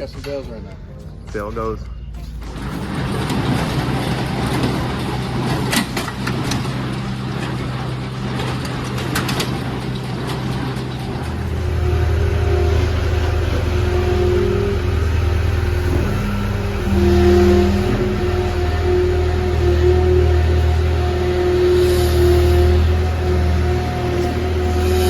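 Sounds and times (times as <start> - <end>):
tractor engine under load: 2.0 - 25.0.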